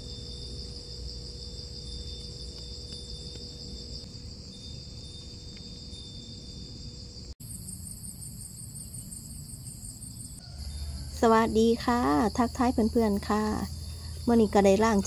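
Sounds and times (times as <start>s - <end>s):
insects trilling: 0.0s - 15.0s
pulsing insect trill: 0.0s - 15.0s.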